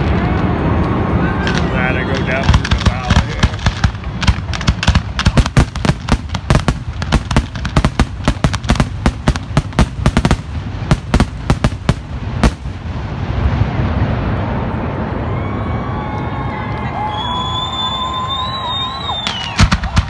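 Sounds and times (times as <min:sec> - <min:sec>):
fireworks bangs and crackles: 0:00.0 - 0:15.2, 0:17.0 - 0:20.0.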